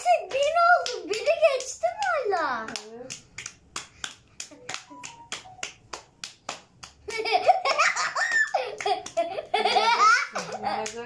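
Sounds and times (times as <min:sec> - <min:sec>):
hands clapping in rhythm: 0:00.0 - 0:11.0.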